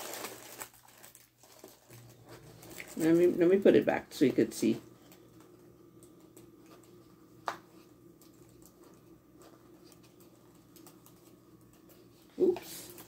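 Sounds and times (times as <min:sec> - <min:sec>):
low steady hum: 0:00.1 - 0:13.0.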